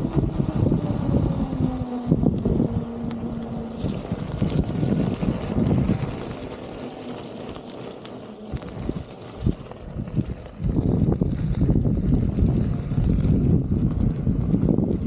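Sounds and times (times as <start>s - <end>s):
electric motor whine: 0.0s - 15.0s
wind buffeting microphone: 0.0s - 15.0s
tyre noise on tarmac and gravel: 2.2s - 15.0s.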